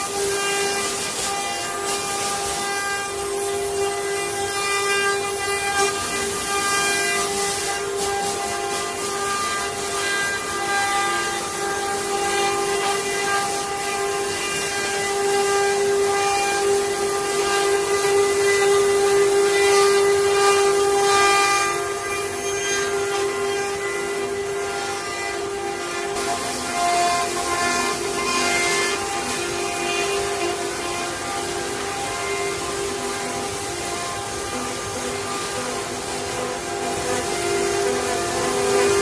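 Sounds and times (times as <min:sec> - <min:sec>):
cutting hiss: 0:00.0 - 0:39.0
router spindle whine: 0:00.0 - 0:39.0.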